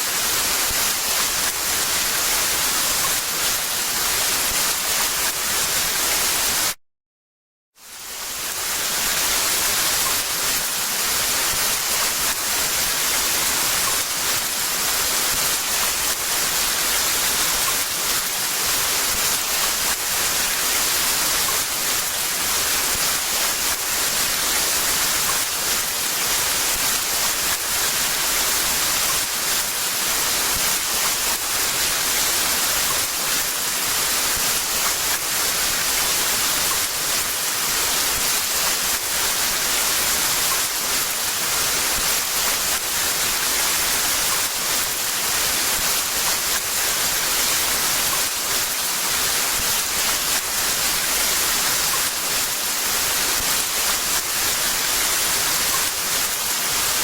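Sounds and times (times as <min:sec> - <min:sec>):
heavy rain pouring: 0:08.0 - 0:57.0.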